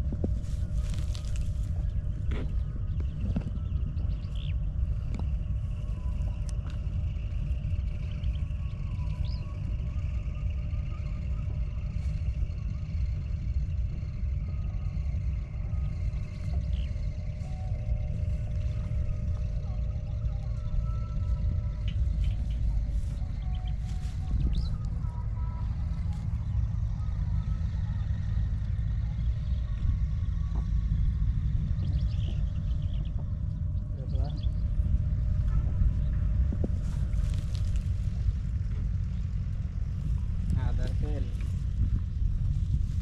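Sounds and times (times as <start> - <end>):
low rumble: 0.0 - 43.0
wind buffeting microphone: 0.0 - 43.0
faint high chirps: 0.6 - 41.6.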